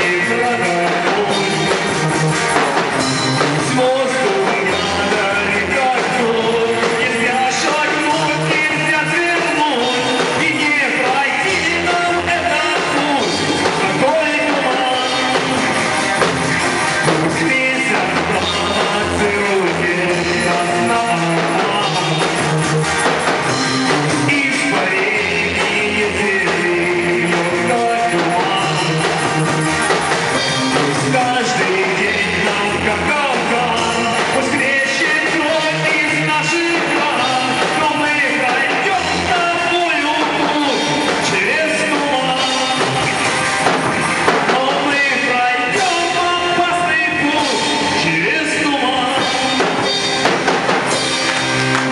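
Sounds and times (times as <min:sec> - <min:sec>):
rock band with singing: 0:00.0 - 0:51.9.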